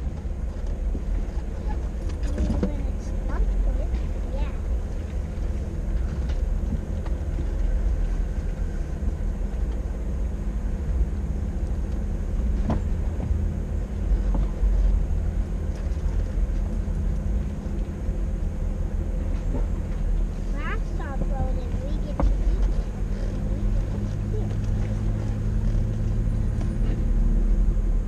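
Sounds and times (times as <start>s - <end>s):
off-road vehicle rumbling over rocks: 0.0s - 28.0s.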